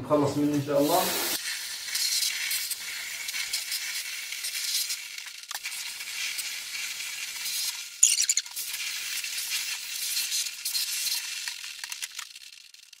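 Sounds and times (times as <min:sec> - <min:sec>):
water spray hissing: 0:00.5 - 0:11.7.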